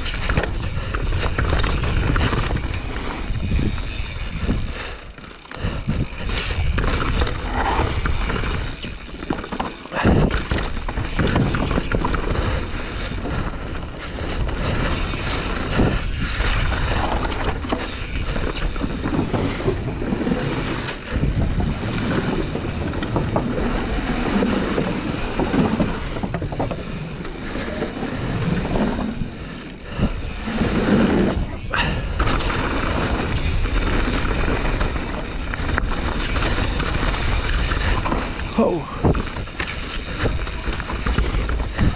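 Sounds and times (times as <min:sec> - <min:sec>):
bike rattling over bumps: 0:00.0 - 0:41.9
bike tyres rolling over trail: 0:00.0 - 0:41.9.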